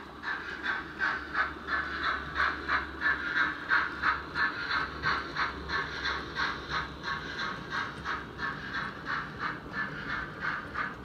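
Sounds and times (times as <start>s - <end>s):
model steam locomotive chuffing: 0.0s - 11.0s.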